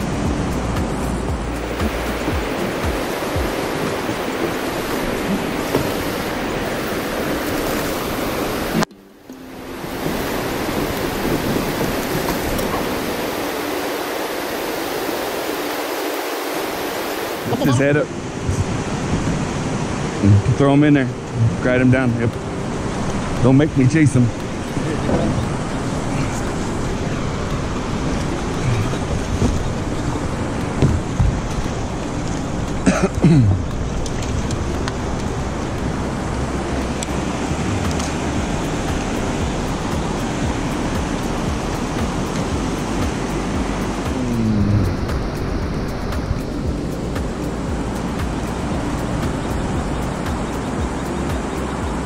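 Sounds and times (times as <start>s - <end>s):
wind on microphone: 0.0s - 8.9s, 9.6s - 32.9s, 33.5s - 52.0s
creek water rushing: 0.0s - 52.0s.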